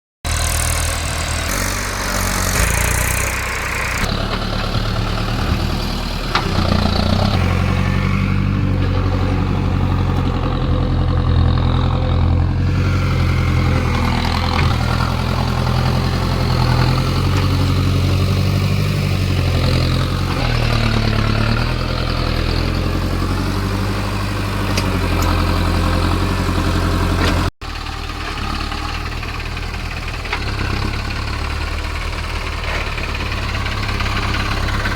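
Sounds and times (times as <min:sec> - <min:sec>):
tractor engine chugging: 0:00.3 - 0:34.9.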